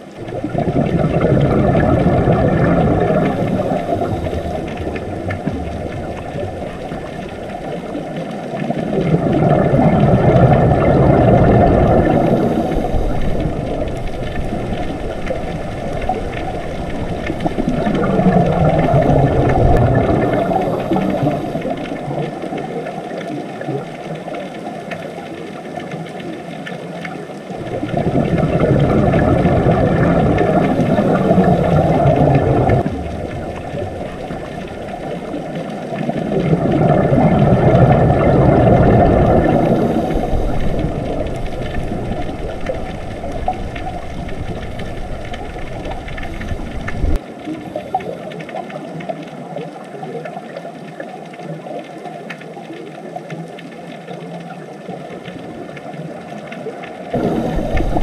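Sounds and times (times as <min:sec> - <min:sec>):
muffled underwater rushing: 0:00.0 - 0:58.0.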